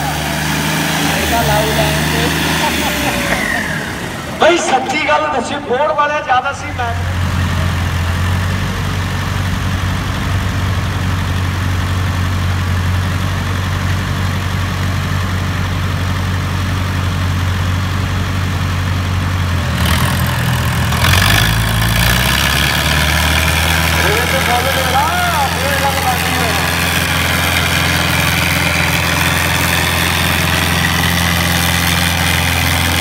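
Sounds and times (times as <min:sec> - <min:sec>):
diesel tractor engines straining: 0:00.0 - 0:33.0.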